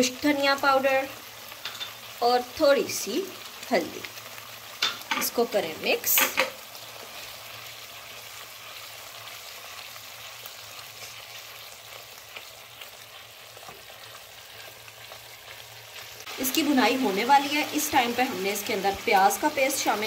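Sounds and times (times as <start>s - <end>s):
masala sizzling in oil: 0.0s - 20.0s.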